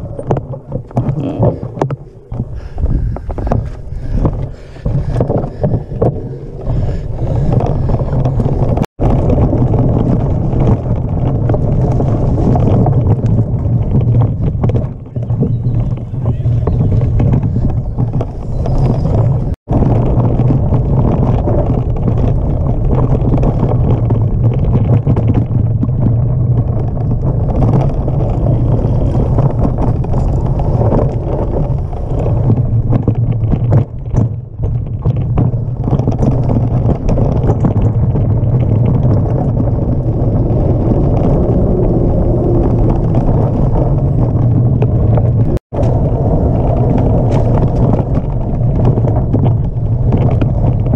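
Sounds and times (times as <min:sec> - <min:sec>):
bike rattling: 0:00.0 - 0:50.9
tyres rumbling: 0:00.0 - 0:50.9
wind buffeting microphone: 0:00.0 - 0:50.9.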